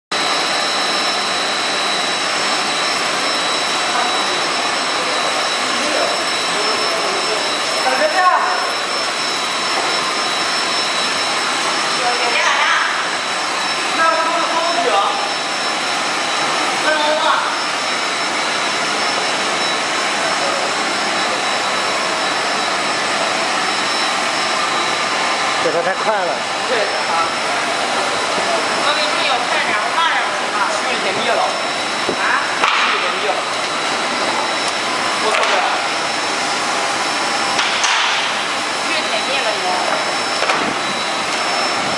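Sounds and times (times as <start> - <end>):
rushing machine noise: 0.1 - 41.9
thin high whines: 0.1 - 41.9.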